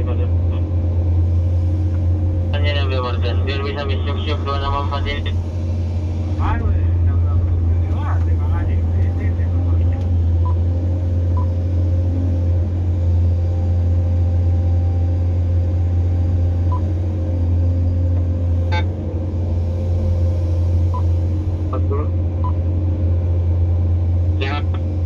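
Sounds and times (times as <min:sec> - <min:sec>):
excavator engine droning: 0:00.0 - 0:25.0.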